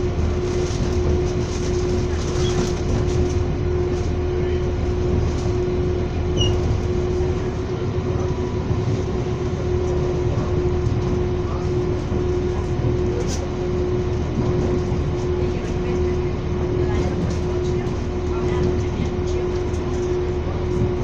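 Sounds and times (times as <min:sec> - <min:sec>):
constant hum: 0:00.0 - 0:21.0
train rolling rumble: 0:00.0 - 0:21.0.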